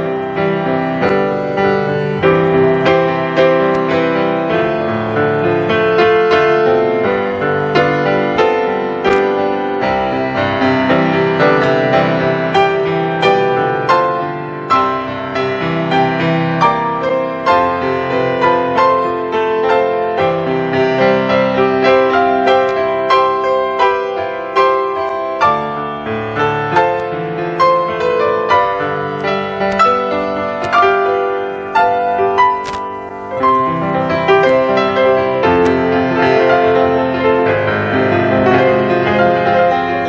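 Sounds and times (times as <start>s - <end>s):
solo piano playing: 0.0s - 40.0s.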